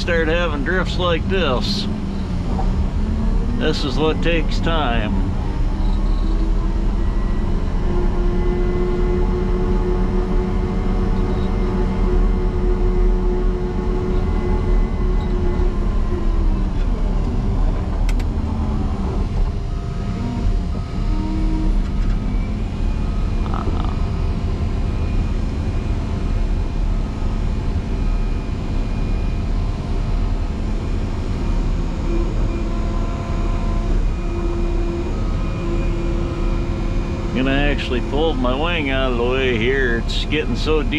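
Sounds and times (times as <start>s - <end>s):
diesel engine lugging under load: 0.0s - 40.9s.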